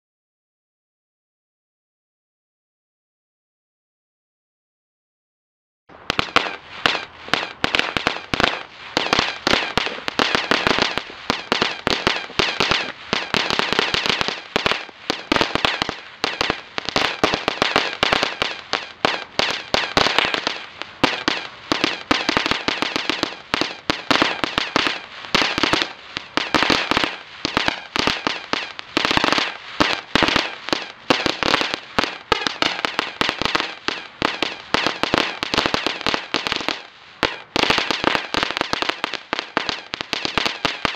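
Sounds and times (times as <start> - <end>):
firework fountain crackling: 5.9 - 40.9.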